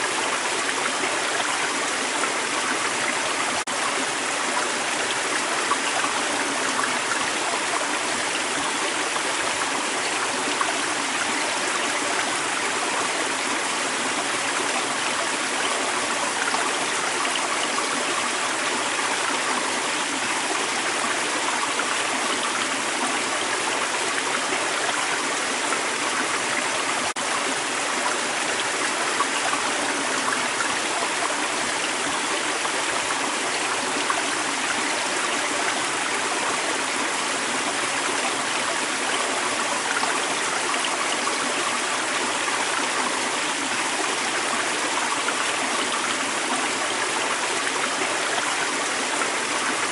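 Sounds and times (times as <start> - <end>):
creek water running over rocks: 0.0 - 49.9.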